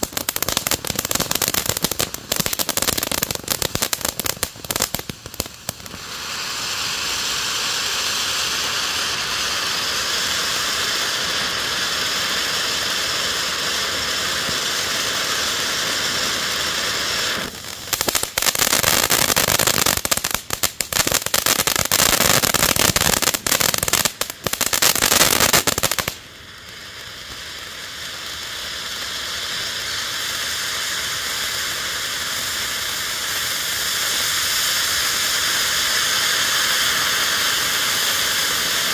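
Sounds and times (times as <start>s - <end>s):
firework crackling: 0.0s - 38.9s
firework fountain hissing: 0.0s - 38.9s.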